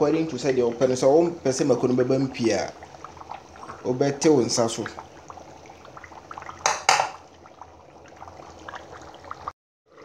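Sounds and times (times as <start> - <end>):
sauce bubbling in a pot: 0.0 - 10.0.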